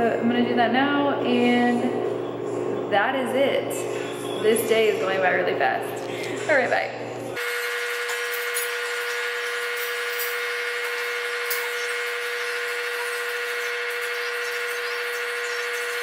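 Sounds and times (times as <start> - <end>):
steady whine: 0.0 - 16.0.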